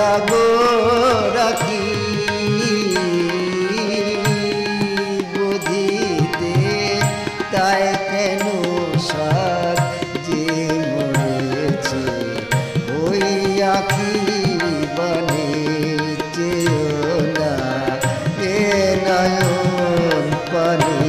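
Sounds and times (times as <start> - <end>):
bowed string instrument: 0.0 - 21.0
harmonium holding notes: 0.0 - 21.0.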